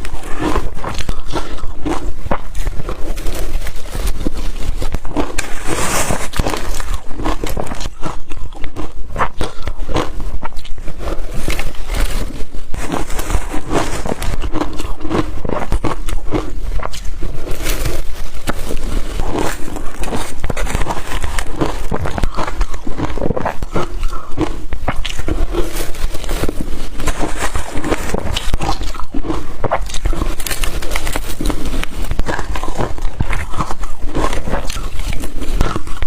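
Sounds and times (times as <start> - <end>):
crushed ice being chewed: 0.0 - 36.0.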